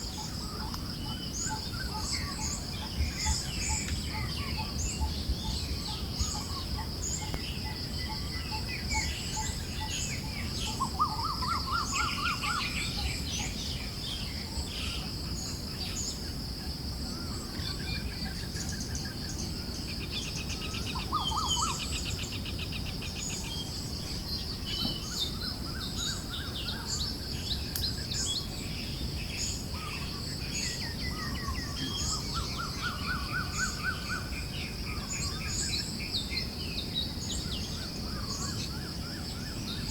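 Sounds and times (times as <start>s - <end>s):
birds chirping and singing: 0.0s - 16.3s, 17.1s - 39.9s.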